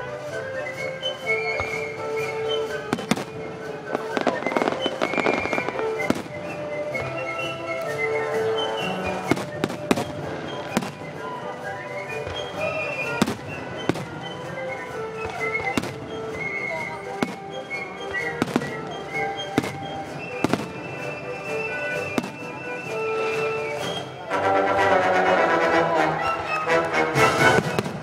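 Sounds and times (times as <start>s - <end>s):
firework crackling: 0.0s - 24.4s, 27.2s - 28.0s
orchestra playing sustained notes: 0.0s - 28.0s.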